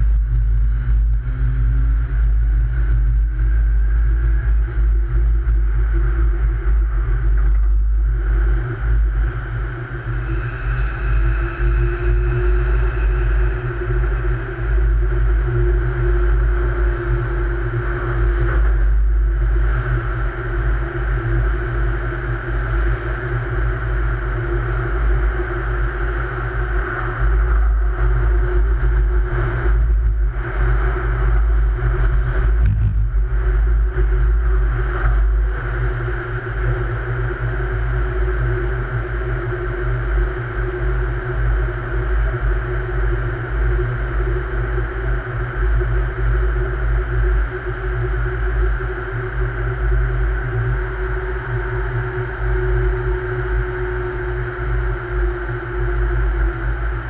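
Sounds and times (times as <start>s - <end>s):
train rumbling in tunnel: 0.0s - 57.0s.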